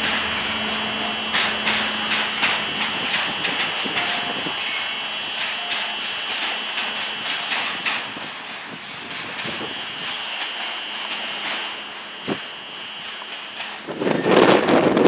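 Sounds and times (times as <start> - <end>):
thin high whine: 0.0 - 14.6
train rumble: 0.0 - 15.0
train wheels clacking over rail joints: 0.0 - 15.0.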